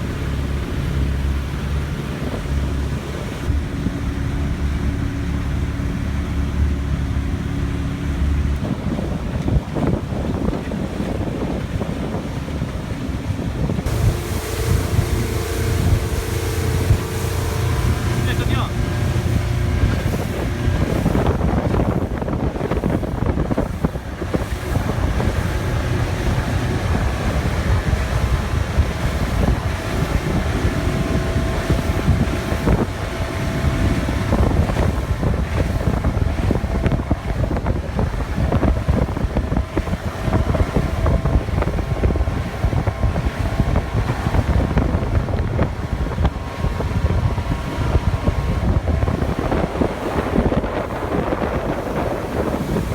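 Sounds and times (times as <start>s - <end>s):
speedboat engine running: 0.0s - 52.9s
wind buffeting microphone: 0.0s - 52.9s.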